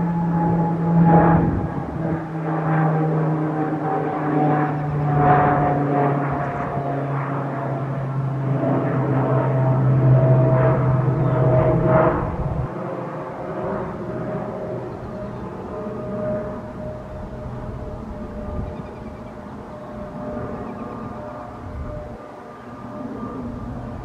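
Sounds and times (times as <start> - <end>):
jet airliner drone overhead: 0.0 - 24.0.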